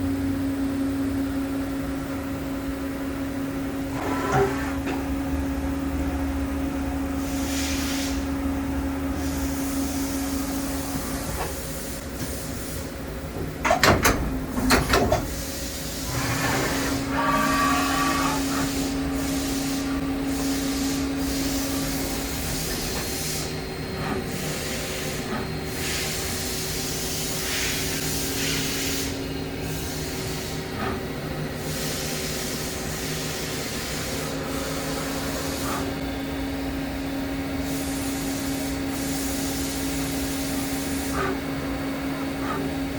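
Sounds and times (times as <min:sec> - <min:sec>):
machining center humming: 0:00.0 - 0:42.9.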